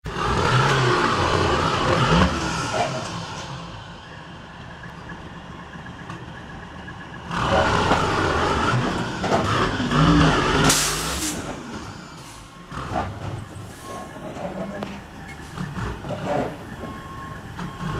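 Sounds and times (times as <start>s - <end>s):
truck engine and road noise: 0.0s - 17.9s.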